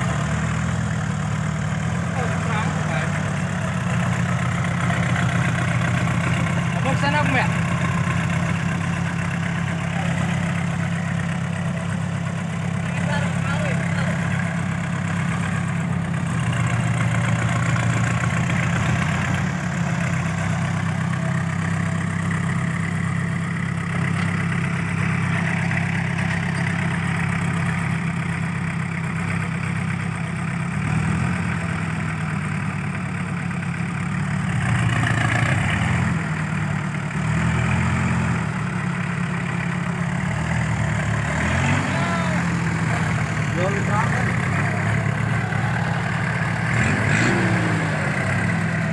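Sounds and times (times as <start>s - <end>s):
truck engine running: 0.0s - 48.9s.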